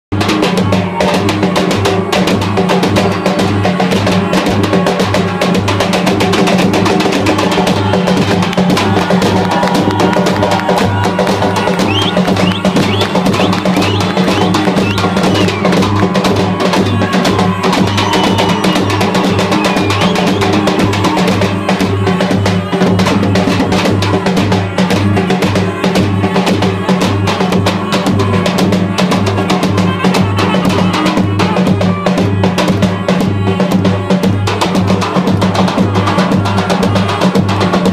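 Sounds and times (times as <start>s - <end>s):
bass drum beating dance rhythm: 0.1s - 37.9s
shawm playing trilling melody: 0.2s - 37.9s.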